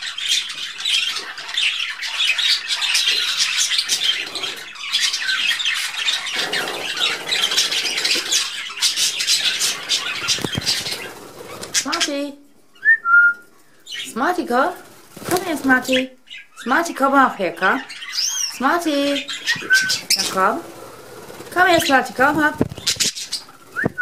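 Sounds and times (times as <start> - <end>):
budgerigars chattering: 0.0 - 12.3, 13.8 - 24.0.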